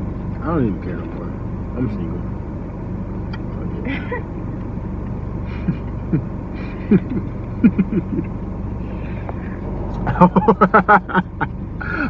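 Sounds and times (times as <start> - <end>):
vehicle humming: 0.0 - 12.0.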